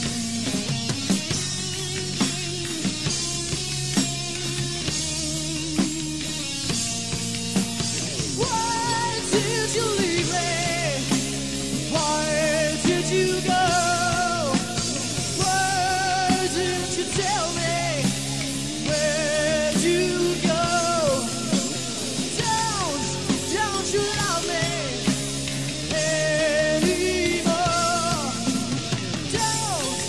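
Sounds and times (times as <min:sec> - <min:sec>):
live rock band: 0:00.0 - 0:30.0.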